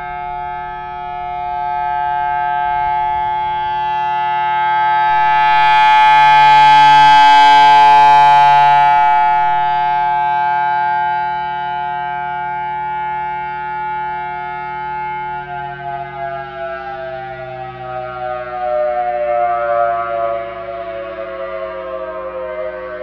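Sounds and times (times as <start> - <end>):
warning siren steady tone: 0.0 - 23.0.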